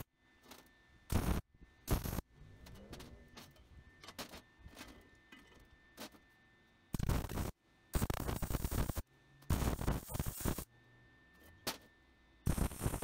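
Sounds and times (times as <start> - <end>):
arc welding crackle: 0.0 - 10.7, 11.6 - 13.0.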